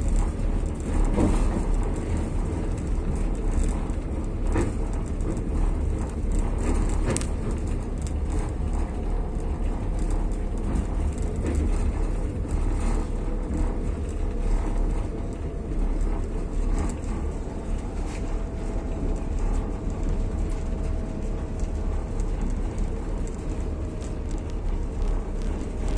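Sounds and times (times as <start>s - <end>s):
train wheels rumbling: 0.0s - 25.9s.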